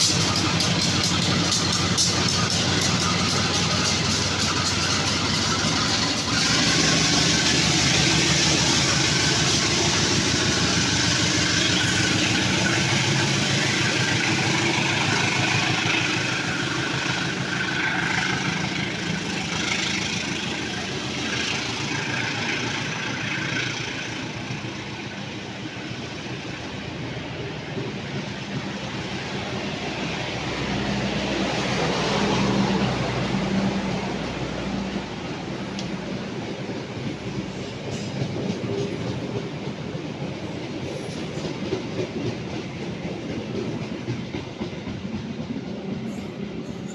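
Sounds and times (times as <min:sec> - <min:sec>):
diesel locomotive engine hum: 0:00.0 - 0:46.9
rail and wheel noise: 0:00.0 - 0:46.9.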